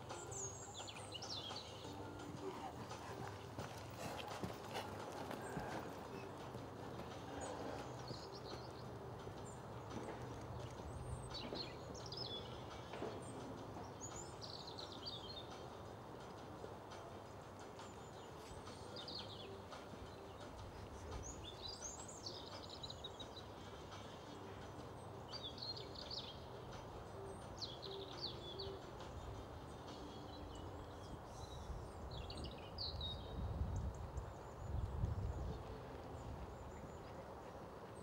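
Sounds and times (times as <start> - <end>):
small birds chirping: 0.0 - 15.8, 17.5 - 38.0
steady outdoor hiss: 0.0 - 38.0.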